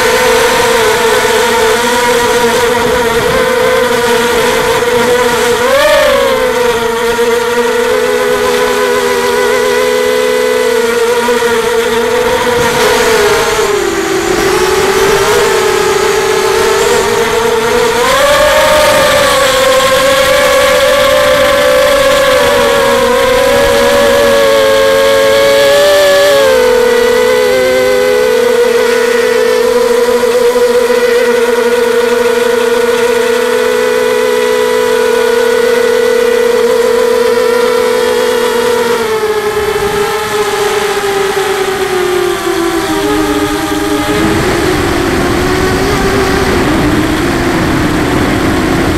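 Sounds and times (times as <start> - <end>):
drone motors whining loudly: 0.0 - 48.9.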